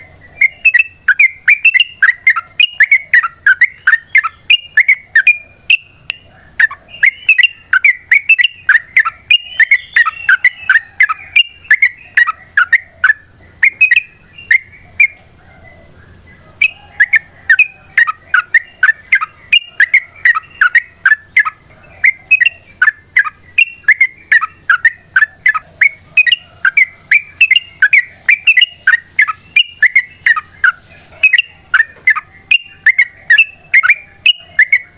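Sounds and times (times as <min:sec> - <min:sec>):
bird singing bubbly chirps: 0:00.0 - 0:34.9.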